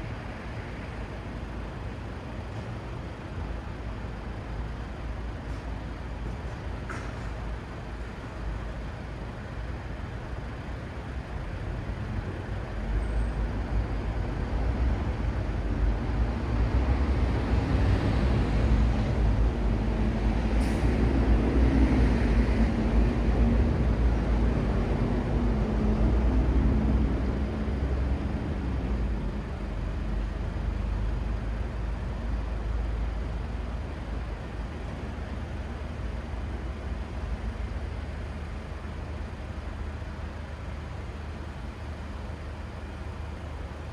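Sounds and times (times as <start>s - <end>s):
traffic rumble: 0.0s - 43.9s.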